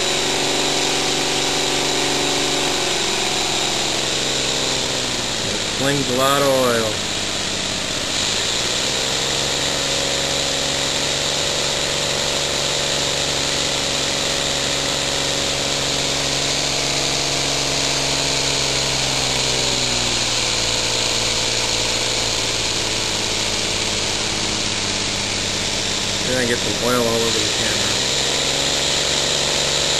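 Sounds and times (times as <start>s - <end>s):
steam engine whirring: 0.0s - 29.9s.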